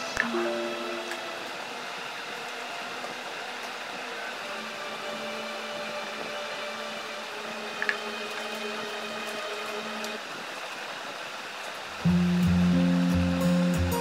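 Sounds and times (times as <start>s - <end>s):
background hiss: 0.0s - 14.0s
faint hum: 0.0s - 14.0s.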